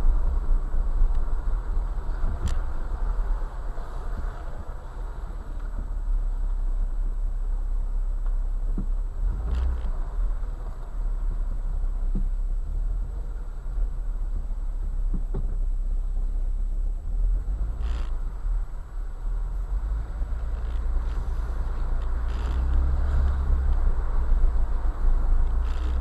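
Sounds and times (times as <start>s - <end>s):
vehicle engine and tyres rumbling: 0.0s - 26.0s.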